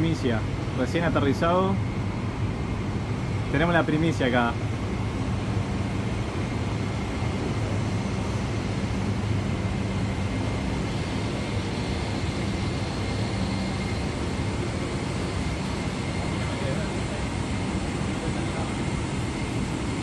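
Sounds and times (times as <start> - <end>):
low hum of aircraft systems: 0.0 - 20.0
rushing ventilation air: 0.0 - 20.0.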